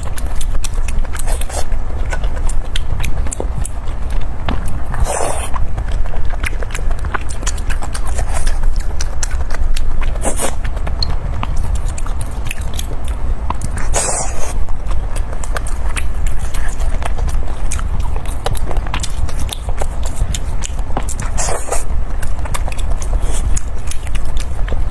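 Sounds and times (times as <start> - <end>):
close chewing with wet mouth clicks: 0.0 - 24.9
steady low rumble: 0.0 - 24.9.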